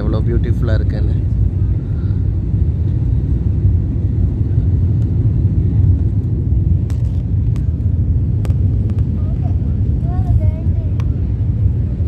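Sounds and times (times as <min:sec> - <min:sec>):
jet engine cabin rumble: 0:00.0 - 0:12.0.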